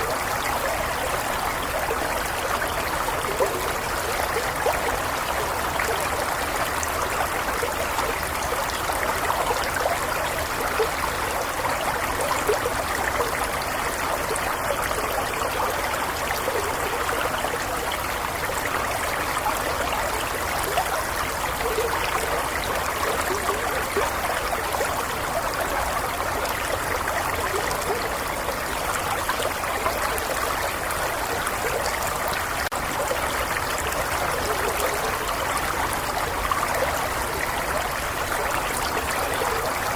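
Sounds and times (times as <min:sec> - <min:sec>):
small stream flowing: 0:00.0 - 0:39.9.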